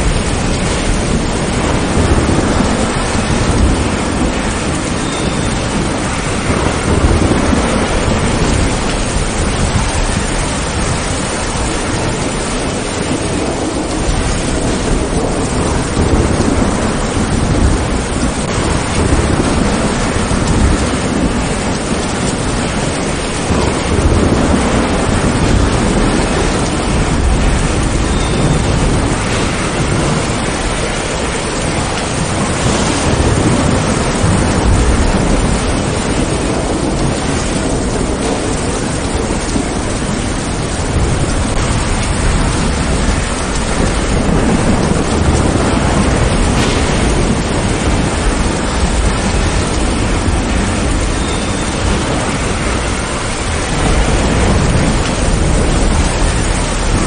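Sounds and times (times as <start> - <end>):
low rumble of thunder: 0.0 - 57.0
steady rain: 0.0 - 57.0.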